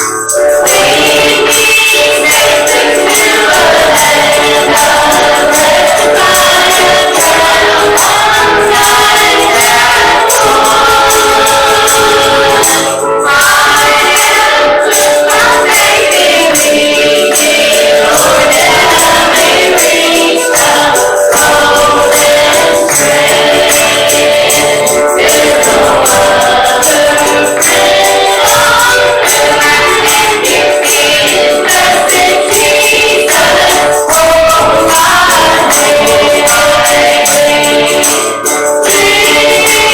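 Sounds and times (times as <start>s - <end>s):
choir singing gospel music: 0.0s - 39.9s
tambourine shaken to the beat: 0.0s - 39.9s.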